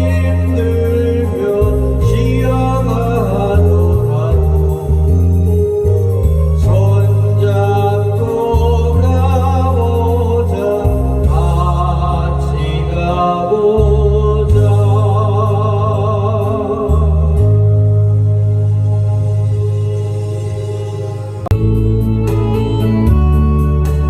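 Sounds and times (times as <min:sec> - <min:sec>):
deep bass notes: 0:00.0 - 0:24.0
wavering melody with vibrato: 0:00.0 - 0:24.0.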